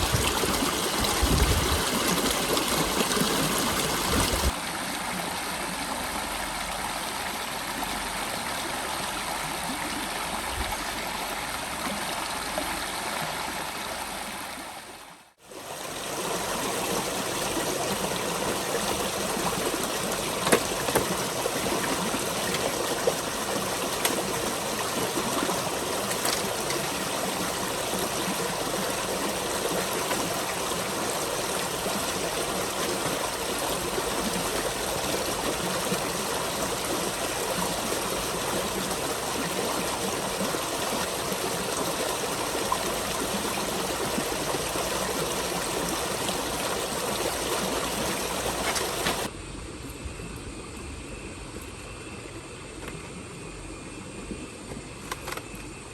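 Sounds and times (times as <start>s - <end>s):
running water rushing: 0.0s - 49.3s.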